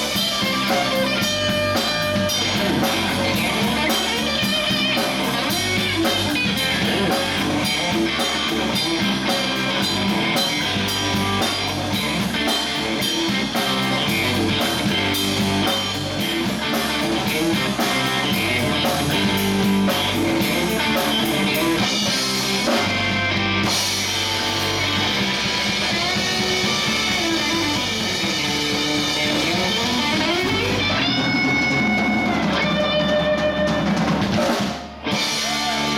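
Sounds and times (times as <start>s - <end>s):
bass guitar: 0.0s - 35.9s
drum kit: 0.0s - 35.9s
electric guitar: 0.0s - 35.9s.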